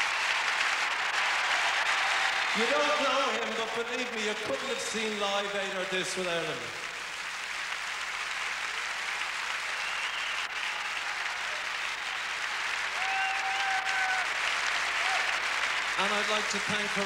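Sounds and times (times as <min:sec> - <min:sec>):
crowd cheering: 0:00.0 - 0:05.9, 0:06.5 - 0:17.0
audience applauding: 0:00.0 - 0:17.0.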